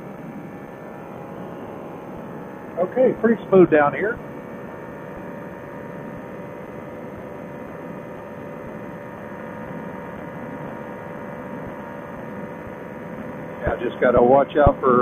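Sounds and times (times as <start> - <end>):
engine and propeller drone: 0.0 - 15.0.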